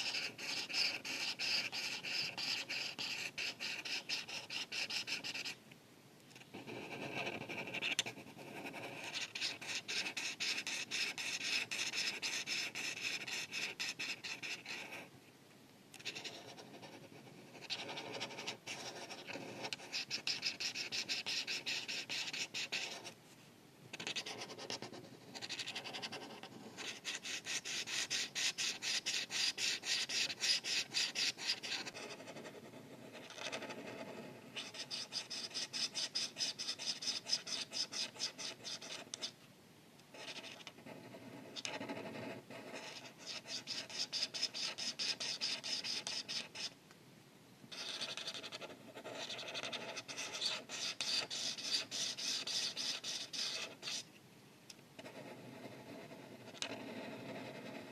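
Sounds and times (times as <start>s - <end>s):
marker scratching on paper: 0.0s - 5.6s, 6.5s - 15.1s, 16.0s - 23.2s, 23.9s - 39.4s, 40.1s - 46.7s, 47.7s - 54.1s, 55.0s - 57.9s.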